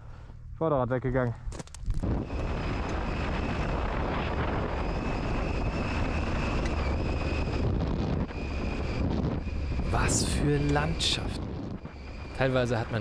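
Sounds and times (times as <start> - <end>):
wind rush on microphone: 1.7 - 13.0
high-pitched whine: 2.0 - 13.0.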